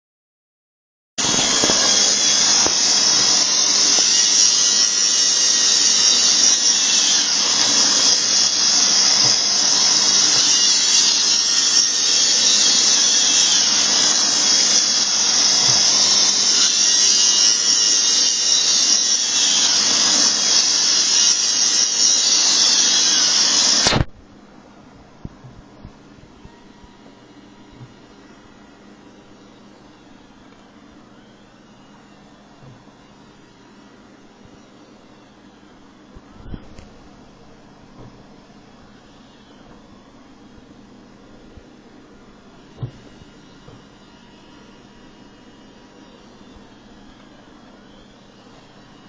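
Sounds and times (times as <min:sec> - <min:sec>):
robot vacuum whirring: 0:01.2 - 0:24.1, 0:26.3 - 0:36.8, 0:42.4 - 0:49.0.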